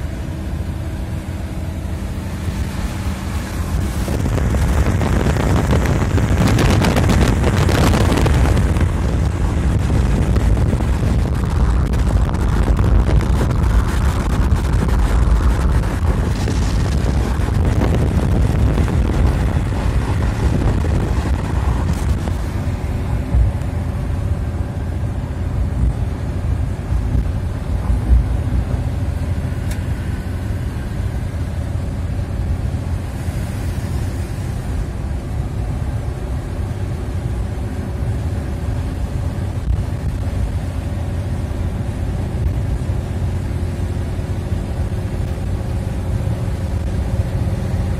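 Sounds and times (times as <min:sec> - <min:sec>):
car interior engine and road drone: 0:00.0 - 0:47.9.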